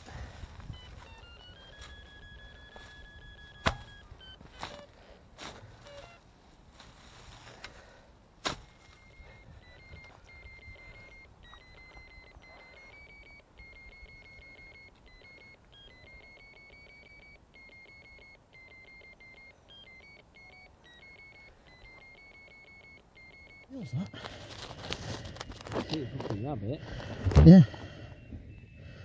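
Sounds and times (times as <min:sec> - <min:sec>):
receiver beeping rapid tones: 0:00.7 - 0:04.9, 0:05.8 - 0:06.2, 0:08.9 - 0:29.0.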